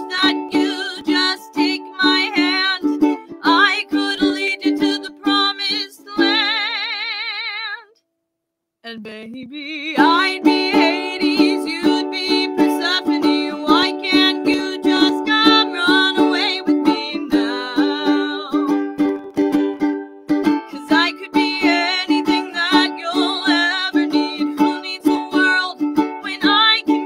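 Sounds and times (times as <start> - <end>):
strummed ukulele: 0.0 - 7.1, 9.9 - 27.0
woman singing: 0.0 - 8.0, 8.9 - 19.0, 20.6 - 27.0.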